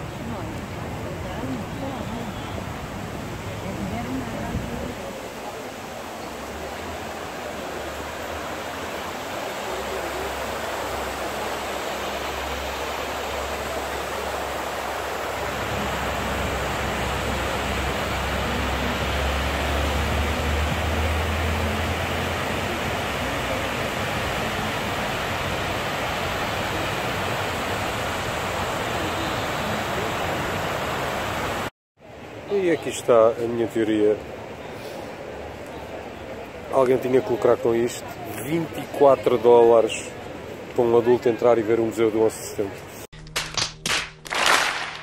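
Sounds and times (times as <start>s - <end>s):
waterfall roar: 0.0s - 43.0s.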